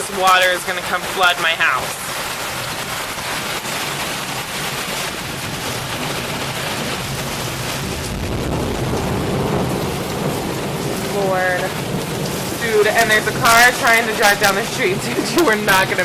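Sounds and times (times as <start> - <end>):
heavy rain pouring: 0.0 - 16.0
running floodwater: 0.0 - 16.0
low rumble: 2.0 - 16.0.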